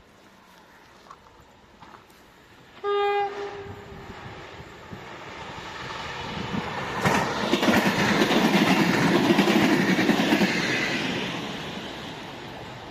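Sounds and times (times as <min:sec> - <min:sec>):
railcar passing: 0:00.0 - 0:12.9.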